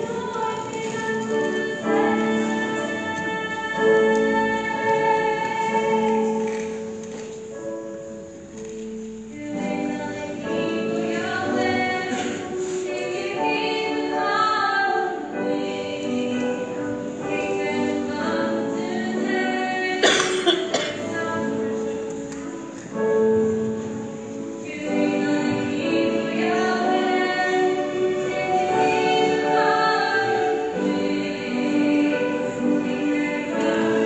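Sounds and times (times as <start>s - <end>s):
group singing slow hymn: 0.0s - 6.9s, 9.4s - 22.5s, 24.6s - 34.0s.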